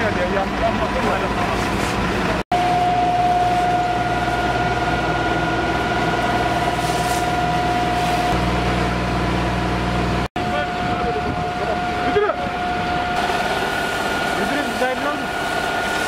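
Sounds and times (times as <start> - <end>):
engine drone with whine: 0.0 - 16.0.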